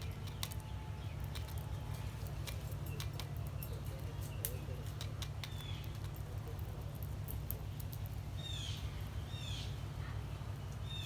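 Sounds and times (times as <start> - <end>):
songbird chirps: 0.0 - 6.2, 7.6 - 11.0.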